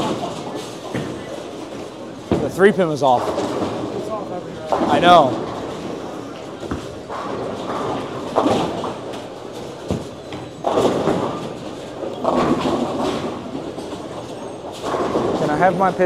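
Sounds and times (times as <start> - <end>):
bowling balls rolling: 0.0 - 16.0
bowling pins crashing: 0.0 - 16.0.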